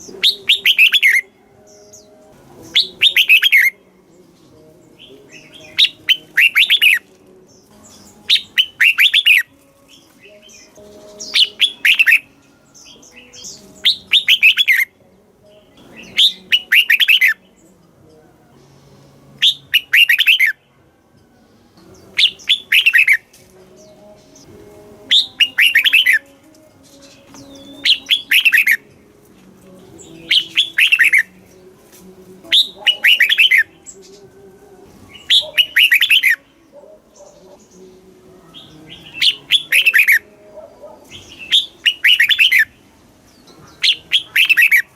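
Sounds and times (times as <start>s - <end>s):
bird singing warbled phrases: 0.0s - 44.9s.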